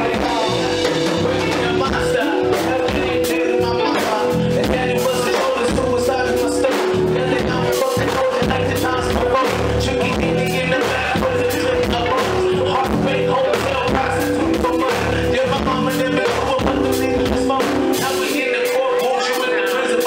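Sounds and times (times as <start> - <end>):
bass line: 0.0 - 18.5
live band music: 0.0 - 20.0
person singing: 0.0 - 20.0.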